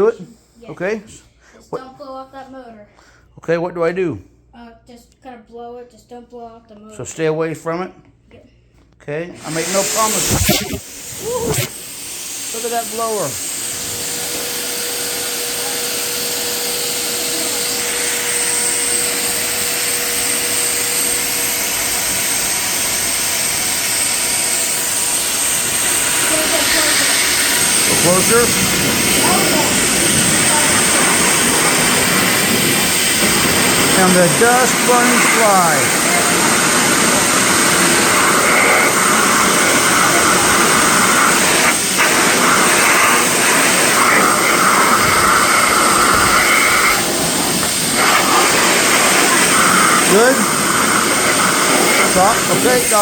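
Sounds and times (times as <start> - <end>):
shop vac blowing air: 9.2 - 53.0.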